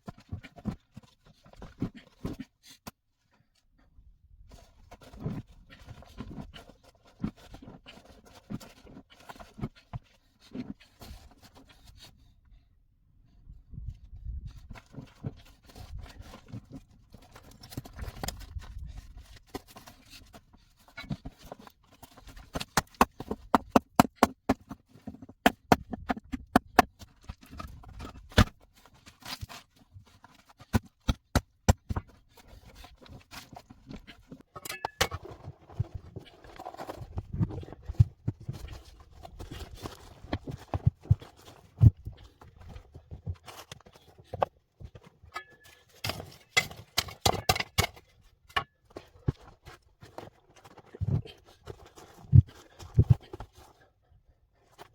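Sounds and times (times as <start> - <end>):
rustling and scraping: 4.4 - 12.6, 13.4 - 54.9.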